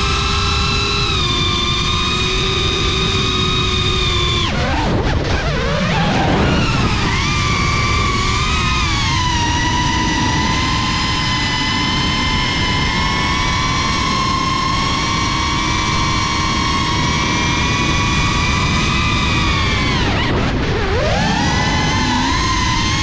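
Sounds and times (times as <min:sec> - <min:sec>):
drone motors and propellers whining: 0:00.0 - 0:23.0.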